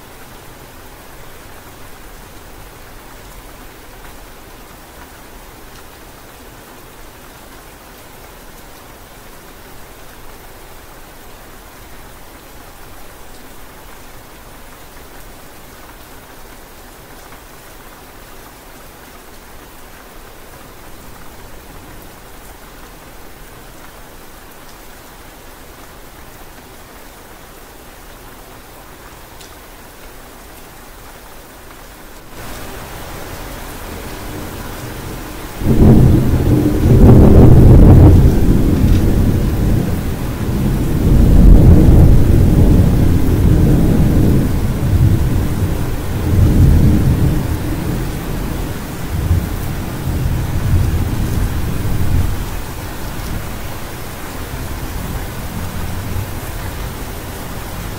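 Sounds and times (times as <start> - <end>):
steady rain hiss: 0.0 - 57.9.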